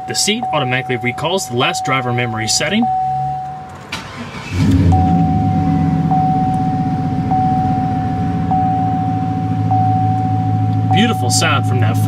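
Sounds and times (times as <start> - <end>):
dashboard warning chime: 0.0 - 12.0
engine cranking and idling: 1.7 - 12.0.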